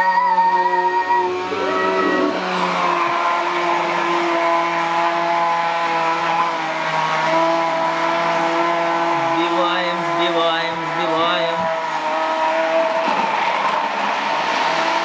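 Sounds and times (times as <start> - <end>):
immersion blender motor humming: 0.4 - 13.1.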